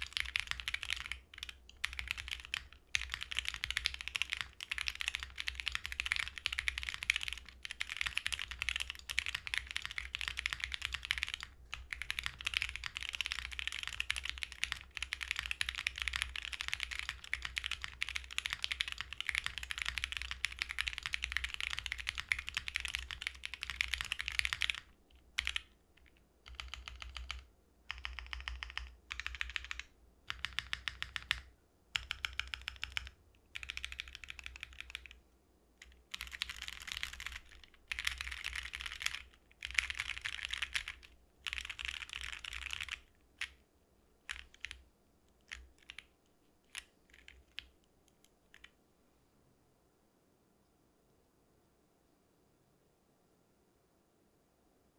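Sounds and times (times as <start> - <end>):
mechanical keyboard typing: 0.0 - 35.2, 35.8 - 43.6, 44.2 - 44.8, 45.4 - 46.1, 46.7 - 48.7.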